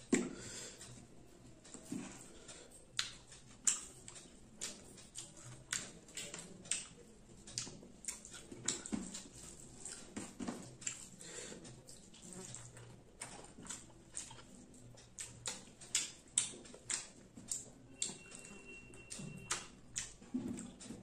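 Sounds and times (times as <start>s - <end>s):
person chewing wetly: 0.0s - 21.0s.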